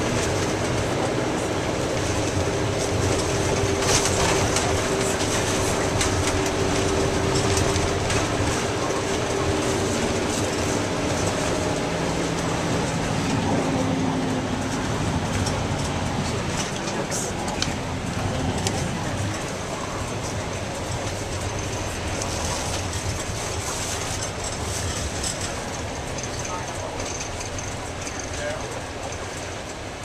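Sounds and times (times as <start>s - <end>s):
body rattles and clicks: 0.0s - 30.0s
minibus engine drone: 0.0s - 30.0s
road noise: 0.0s - 30.0s.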